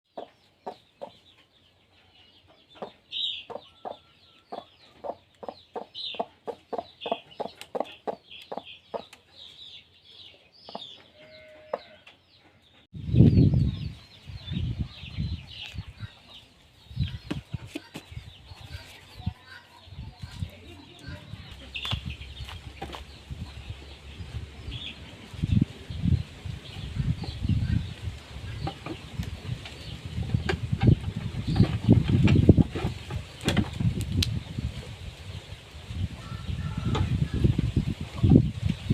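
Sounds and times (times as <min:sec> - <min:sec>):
chickens clucking: 0:00.1 - 0:12.9, 0:13.6 - 0:34.0
small birds chirping: 0:00.1 - 0:38.9.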